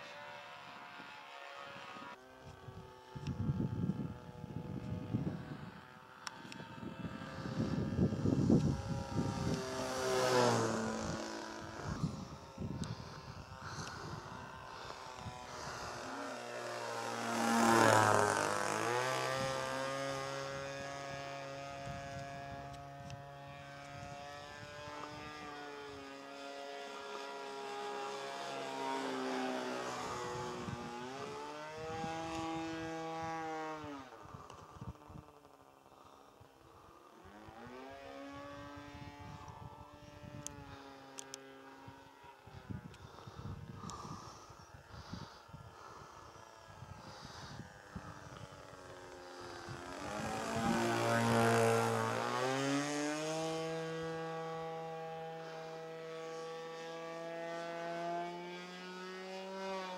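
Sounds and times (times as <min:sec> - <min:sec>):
model airplane engine buzzing: 0:00.0 - 0:59.9.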